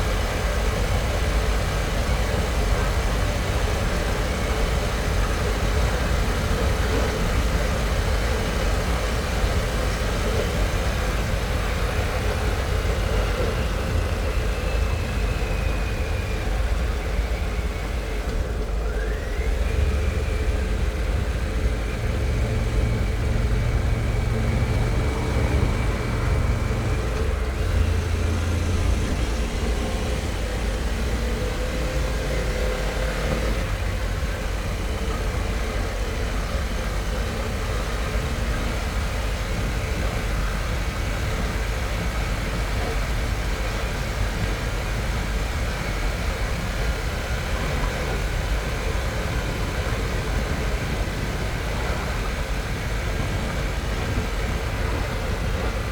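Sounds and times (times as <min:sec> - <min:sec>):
wind and road rush: 0:00.0 - 0:55.9.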